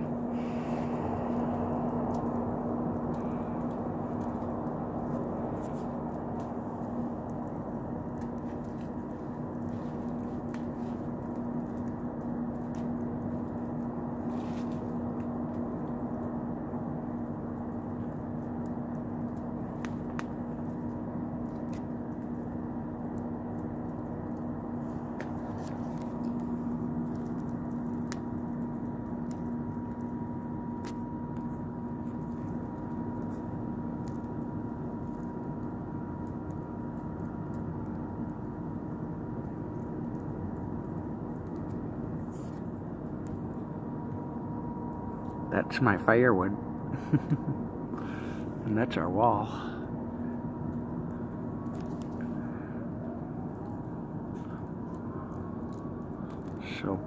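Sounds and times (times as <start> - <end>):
campfire flames rushing: 0.0 - 57.0
crackles and pops of logs: 0.0 - 57.0
steady low hum: 0.0 - 57.0.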